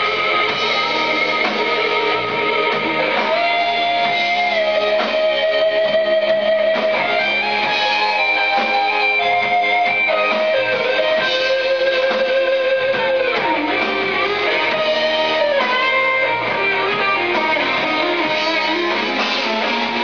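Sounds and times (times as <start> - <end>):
electric guitar solo: 0.0 - 20.0
rock band backing: 0.0 - 20.0.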